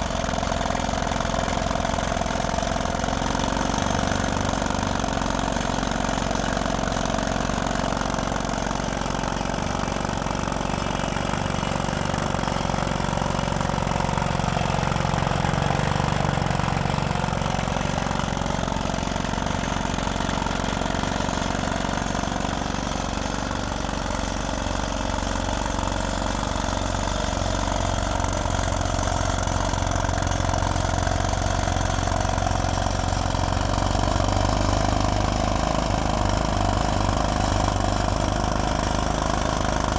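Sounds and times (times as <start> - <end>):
drill machine engine running: 0.0 - 39.9.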